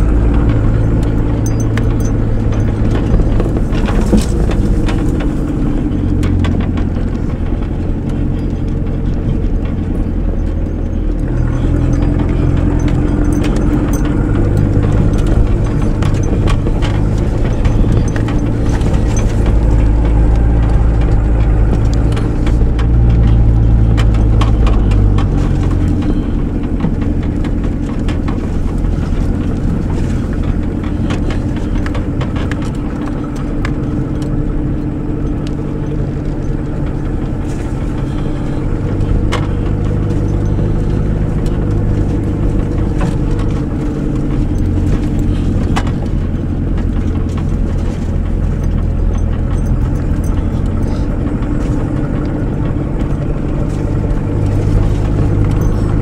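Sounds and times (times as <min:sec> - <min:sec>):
clicks and knocks from bumpy ride: 0:00.0 - 0:56.0
vehicle engine running: 0:00.0 - 0:56.0.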